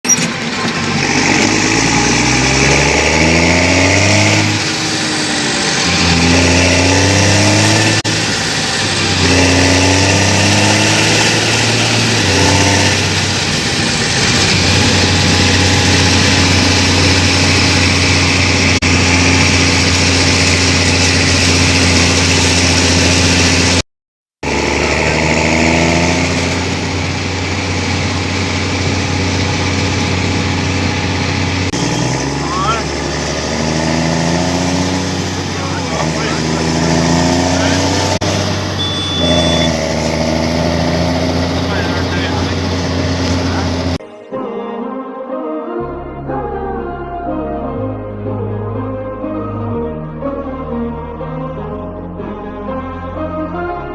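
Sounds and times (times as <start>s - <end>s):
tractor diesel engine revving: 0.0s - 23.8s, 24.4s - 44.0s.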